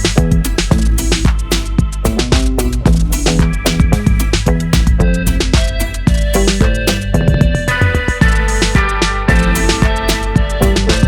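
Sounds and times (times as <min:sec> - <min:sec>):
upbeat music with drums: 0:00.0 - 0:11.0.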